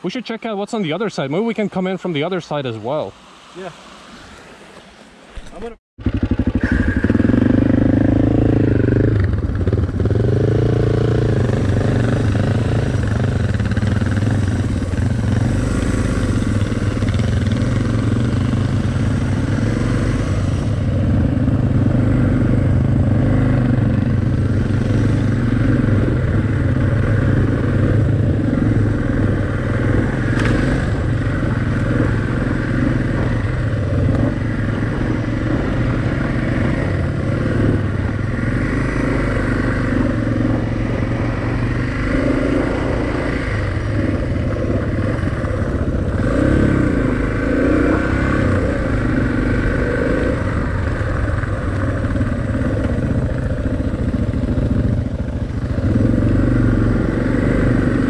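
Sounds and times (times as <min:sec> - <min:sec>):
motorcycle engine running: 0:06.0 - 0:58.0.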